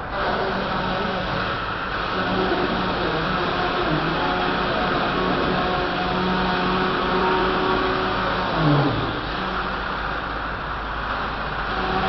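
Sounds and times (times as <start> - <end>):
belt-driven sawmill machinery running: 0.0 - 12.0.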